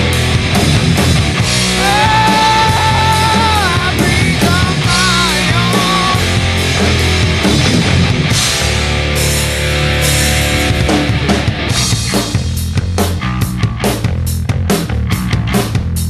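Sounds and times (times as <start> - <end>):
lead guitar bending phrases: 0.0 - 16.0
rock band playing: 0.0 - 16.0.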